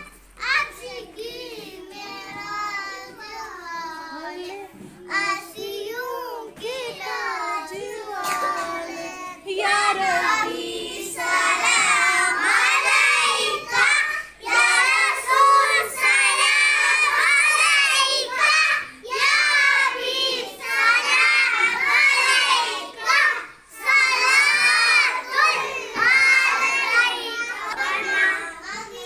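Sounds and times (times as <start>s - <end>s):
children singing in unison: 0.0s - 29.0s.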